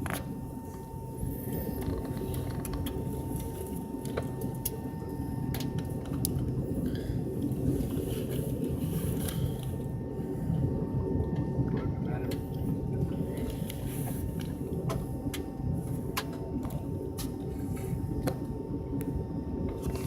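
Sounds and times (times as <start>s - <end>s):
faint steady whine: 0.0s - 20.0s
steady low rumble: 0.0s - 20.0s.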